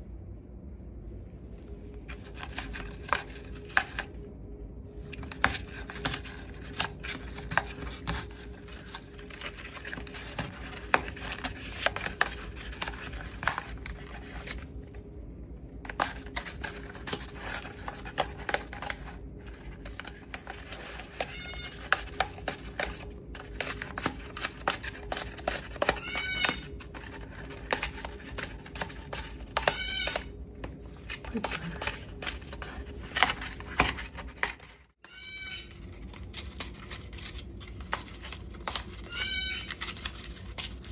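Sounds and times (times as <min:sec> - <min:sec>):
parrot shredding material with beak: 0:05.0 - 0:14.9, 0:15.8 - 0:40.9.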